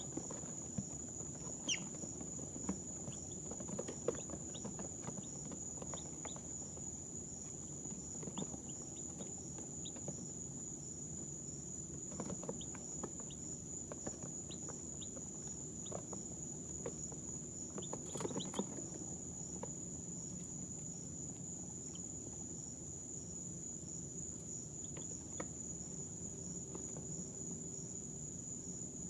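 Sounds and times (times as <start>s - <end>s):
baby chicks peeping: 0.0s - 22.8s, 24.4s - 27.1s.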